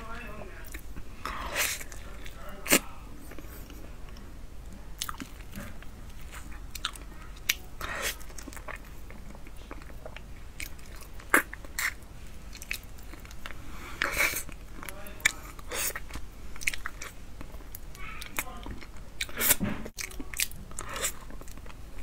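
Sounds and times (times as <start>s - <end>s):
chewing and lip-smacking: 0.6s - 22.0s.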